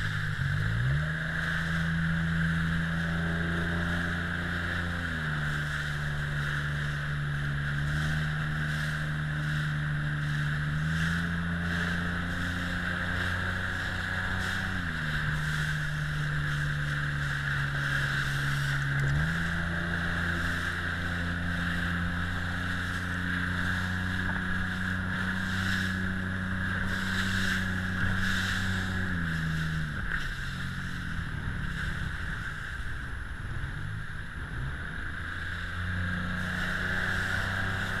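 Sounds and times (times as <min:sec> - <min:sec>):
motorboat engine running: 0:00.0 - 0:38.0
wind and water hiss: 0:00.0 - 0:38.0.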